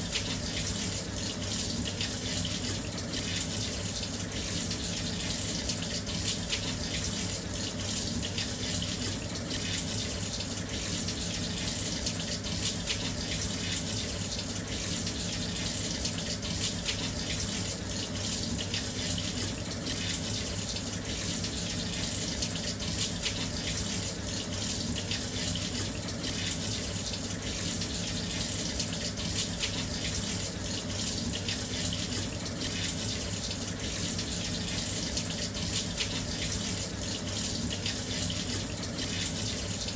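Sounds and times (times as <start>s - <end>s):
water pouring into washing machine: 0.0s - 39.9s.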